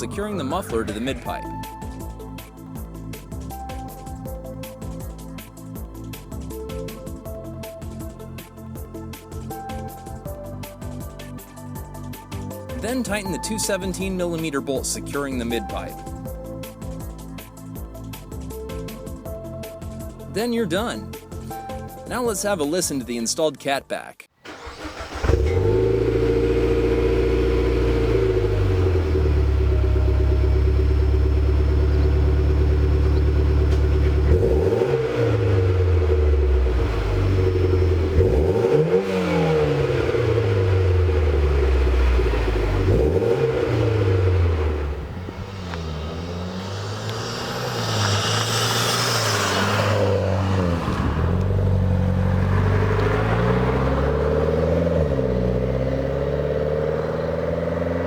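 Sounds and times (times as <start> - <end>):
car engine idling and revving: 0.0 - 22.0, 24.5 - 58.0.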